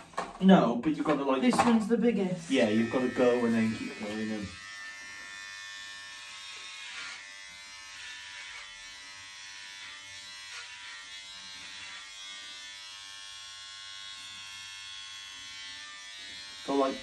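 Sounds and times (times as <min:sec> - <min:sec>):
electric hair clippers buzzing: 0:02.4 - 0:17.0.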